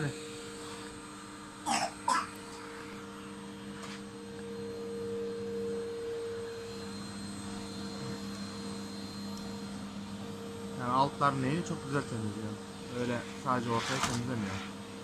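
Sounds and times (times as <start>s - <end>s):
vacuum cleaner motor hum: 0.0s - 15.0s.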